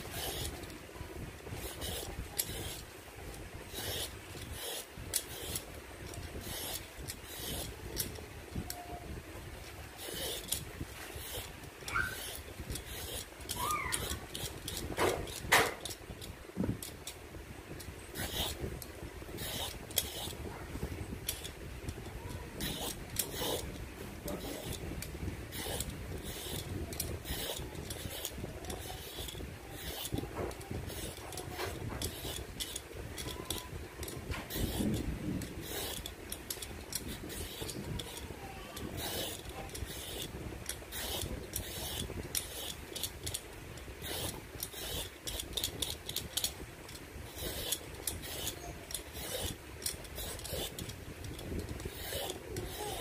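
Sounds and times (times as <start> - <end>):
peeler rasping gourd skin: 0.0 - 0.7, 1.5 - 2.9, 3.6 - 8.9, 9.6 - 17.1, 21.2 - 53.0.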